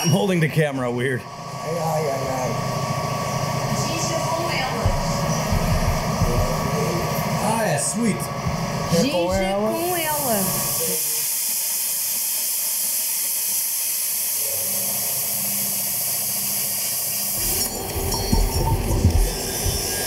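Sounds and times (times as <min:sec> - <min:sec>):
plasma cutter hissing: 0:03.6 - 0:20.0.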